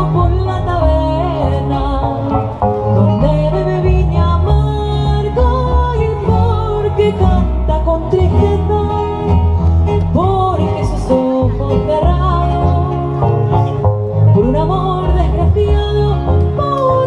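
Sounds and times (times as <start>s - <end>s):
women singing: 0.0s - 9.4s, 10.0s - 13.1s, 14.3s - 17.0s
acoustic guitar: 0.0s - 17.0s
double bass: 0.0s - 17.0s.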